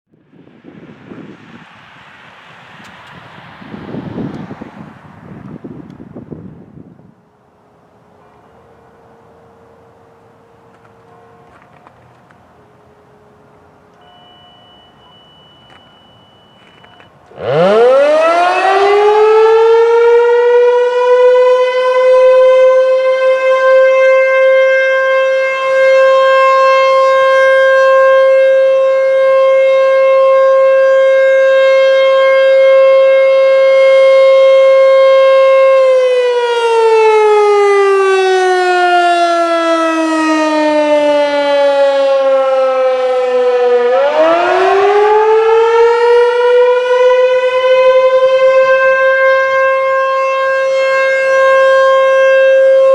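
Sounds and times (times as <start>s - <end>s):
warning siren wailing: 3.1s - 52.9s.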